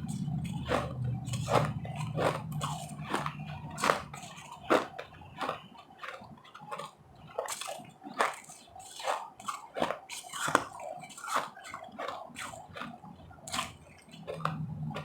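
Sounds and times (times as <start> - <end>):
ice being chewed: 0.0 - 15.0.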